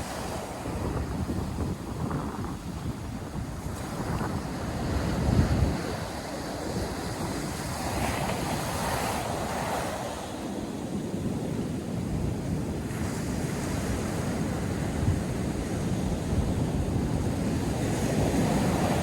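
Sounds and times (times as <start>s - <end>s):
surf washing on beach: 0.0s - 19.0s
wind rumble on microphone: 0.0s - 19.0s.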